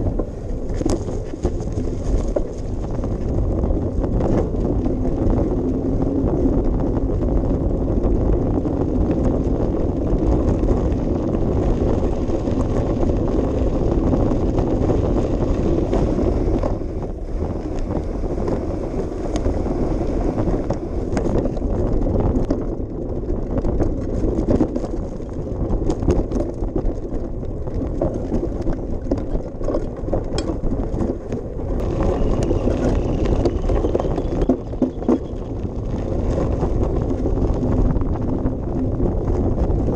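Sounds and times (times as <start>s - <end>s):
bicycle tyre rumble: 0.0s - 39.9s
bike clicks and rattles: 0.0s - 39.9s
wind buffeting microphone: 0.0s - 39.9s.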